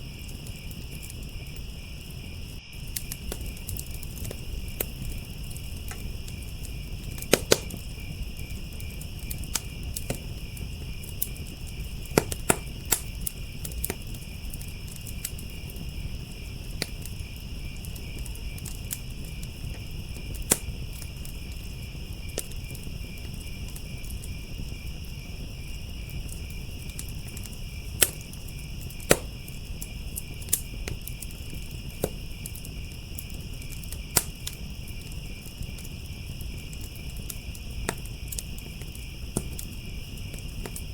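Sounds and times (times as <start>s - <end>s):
crickets chirping: 0.0s - 40.9s
fire crackling and popping: 0.0s - 40.9s
low fire rumble: 0.0s - 40.9s.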